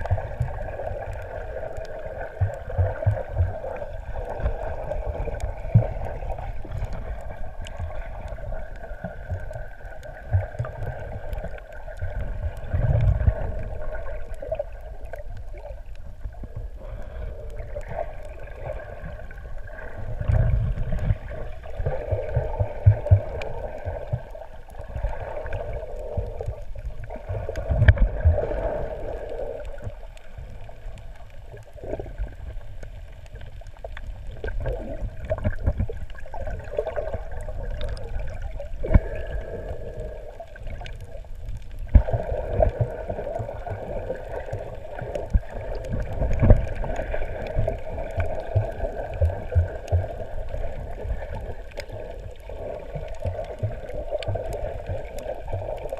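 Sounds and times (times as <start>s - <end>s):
underwater water sloshing: 0.0s - 55.9s.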